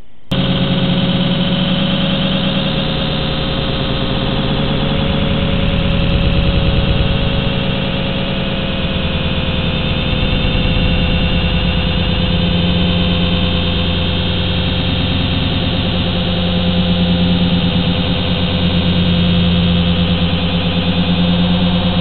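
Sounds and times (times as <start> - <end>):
quadcopter motors droning: 0.3 - 22.0.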